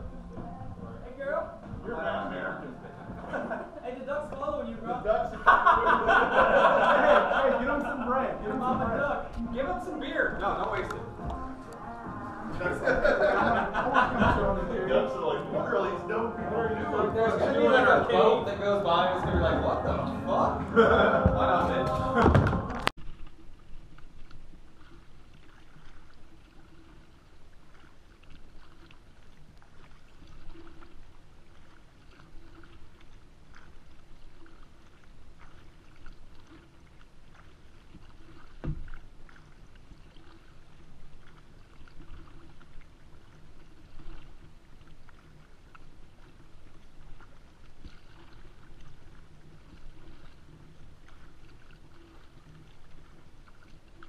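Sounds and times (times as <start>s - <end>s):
kayak paddle splashing: 0.0s - 54.0s.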